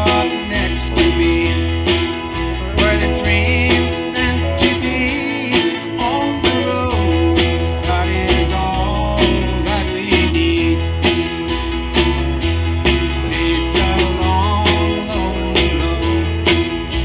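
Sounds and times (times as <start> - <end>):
bass notes: 0.0 - 17.0
sliding melody line: 0.0 - 17.0
steady drum beat: 0.0 - 17.0
strummed acoustic guitar: 0.0 - 17.0.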